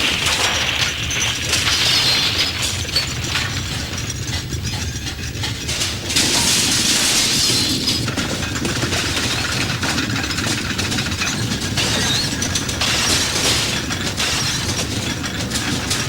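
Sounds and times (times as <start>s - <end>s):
rattling and breaking noises: 0.0s - 16.0s.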